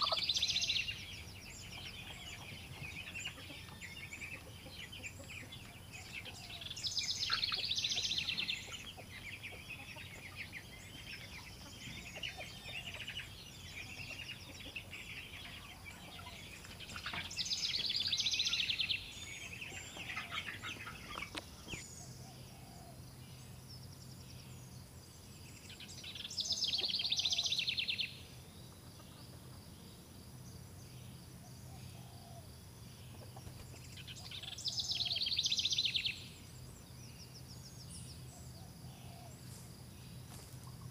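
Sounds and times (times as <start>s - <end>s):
young chickens peeping: 0.0s - 40.9s.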